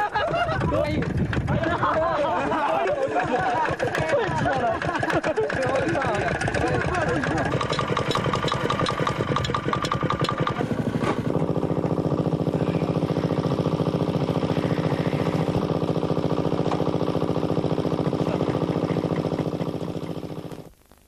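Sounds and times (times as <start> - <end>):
small generator engine running: 0.0 - 20.7.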